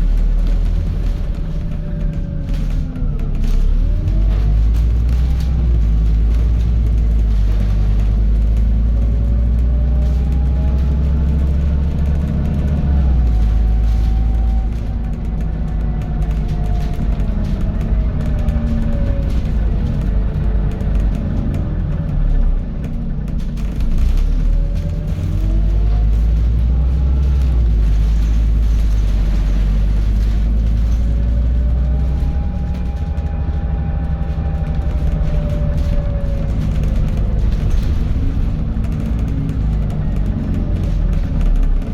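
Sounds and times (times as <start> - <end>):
bus diesel engine rumbling: 0.0 - 41.9
rising engine whine: 0.0 - 41.9.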